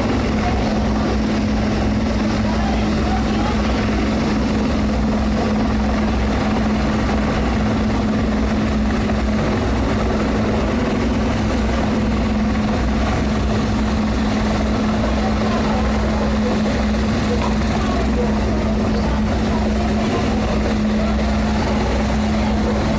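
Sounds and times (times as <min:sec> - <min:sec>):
helicopter hovering: 0:00.0 - 0:22.9.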